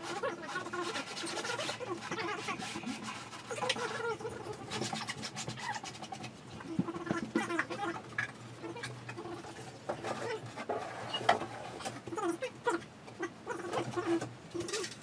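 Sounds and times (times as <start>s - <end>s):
panels scraping and rubbing: 0.0s - 12.2s, 13.6s - 15.0s.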